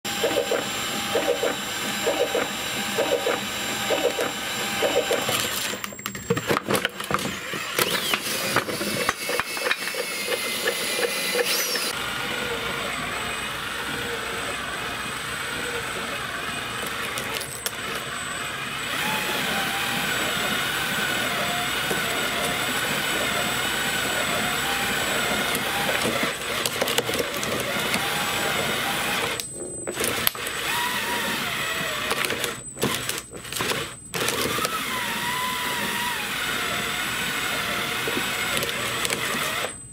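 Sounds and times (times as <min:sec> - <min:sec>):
crunching and clicking of shredder: 0:00.1 - 0:12.0, 0:15.6 - 0:18.1, 0:18.8 - 0:39.8
power drill motor whine: 0:00.1 - 0:39.9.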